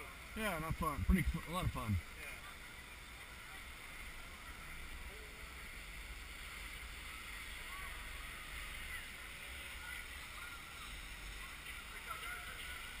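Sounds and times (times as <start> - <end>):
faint far-off voices: 0.0 - 13.0.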